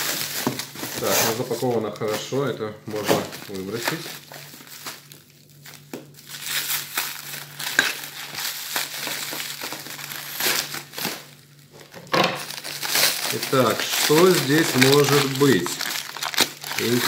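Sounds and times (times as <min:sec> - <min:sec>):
knife cutting plastic film: 0:00.0 - 0:05.1, 0:05.8 - 0:17.0
packing paper rustling: 0:00.0 - 0:17.0
plastic wrap crinkling: 0:00.0 - 0:17.0.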